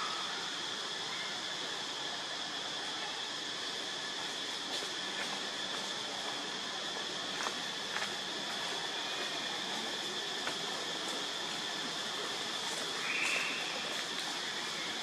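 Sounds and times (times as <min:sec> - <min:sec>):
forest insects droning: 0:00.0 - 0:15.0.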